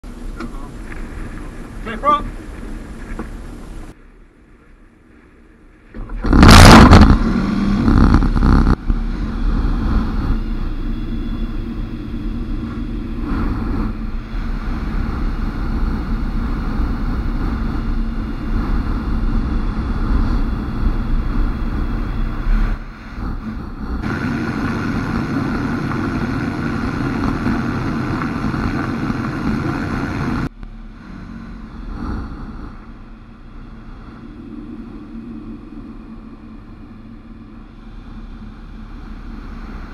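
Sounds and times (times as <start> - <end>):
microlight engine running: 6.0 - 39.9.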